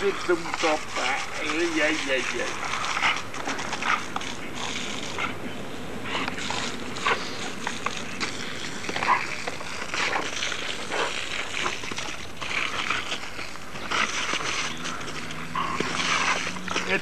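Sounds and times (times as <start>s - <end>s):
dog biting at water jet: 0.0s - 17.0s
garden hose spraying: 0.0s - 17.0s.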